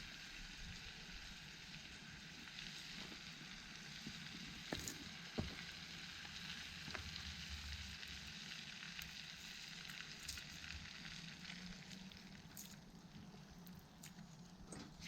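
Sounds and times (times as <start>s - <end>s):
food sizzling in a pan: 0.0s - 12.8s
faint crackles: 0.7s - 15.0s.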